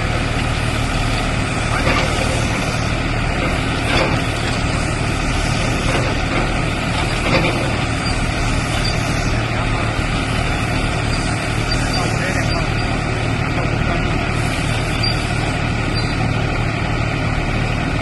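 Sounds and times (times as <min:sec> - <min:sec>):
baler machinery clattering: 0:00.0 - 0:16.4
tractor engine running: 0:00.0 - 0:18.0.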